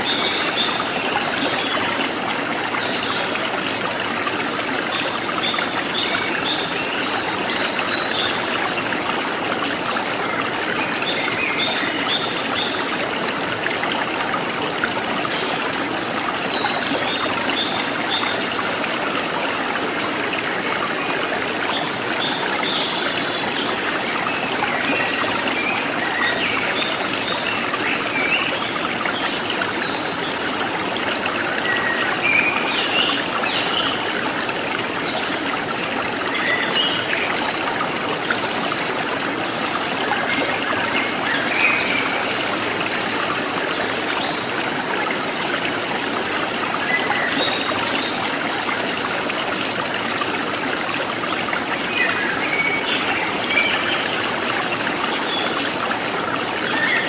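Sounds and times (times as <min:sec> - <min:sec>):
forest stream trickling: 0:00.0 - 0:57.0.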